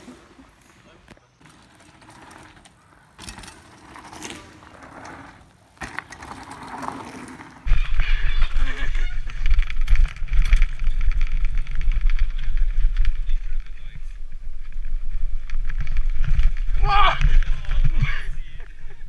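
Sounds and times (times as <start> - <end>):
bike tyres on dirt: 0.0 - 19.0.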